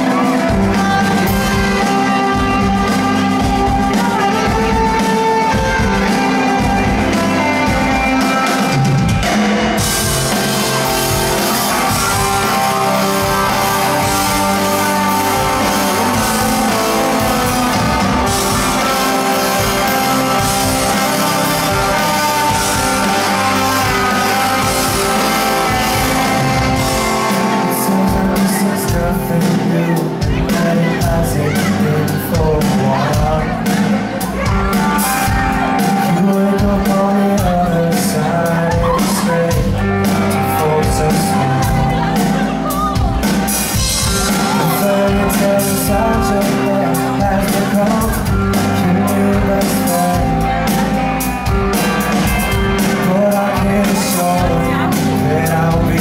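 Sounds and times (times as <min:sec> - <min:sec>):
drums and cymbals: 0:00.0 - 0:56.0
electric guitars: 0:00.0 - 0:56.0
live rock band: 0:00.0 - 0:56.0.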